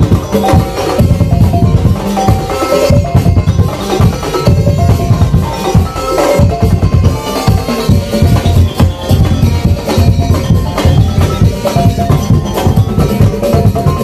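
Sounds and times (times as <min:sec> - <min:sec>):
low drums: 0:00.0 - 0:14.0
tuned percussion melody: 0:00.0 - 0:14.0.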